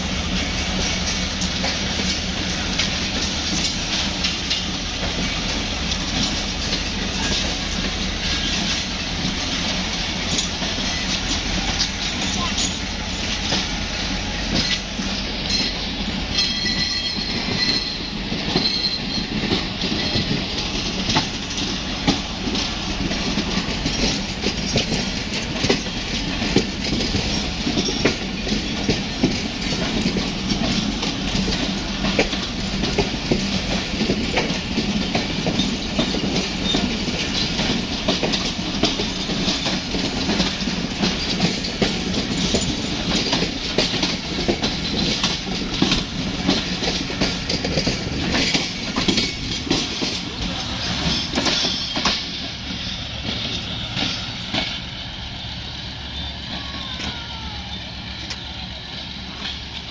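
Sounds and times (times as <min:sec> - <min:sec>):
low train rumble: 0:00.0 - 0:59.9
train wheels clicking over rail joints: 0:00.0 - 0:59.9.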